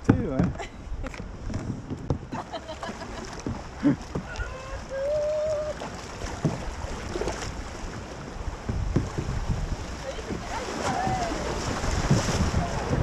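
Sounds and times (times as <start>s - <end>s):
kayak paddling in water: 0.0s - 13.0s.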